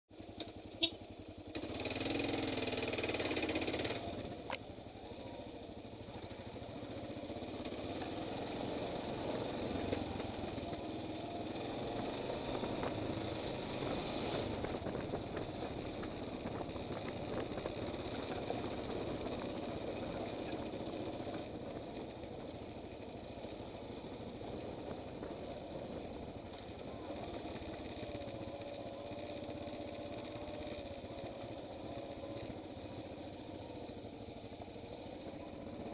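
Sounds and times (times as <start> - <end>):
motorcycle engine revving: 0.2 - 35.9.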